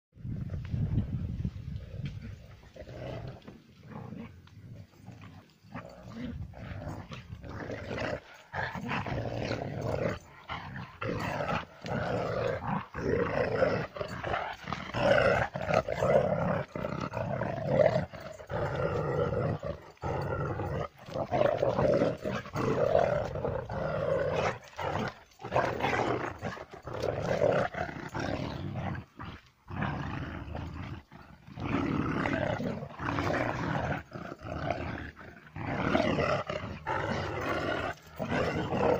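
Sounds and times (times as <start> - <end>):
dogs growling: 1.7 - 38.9.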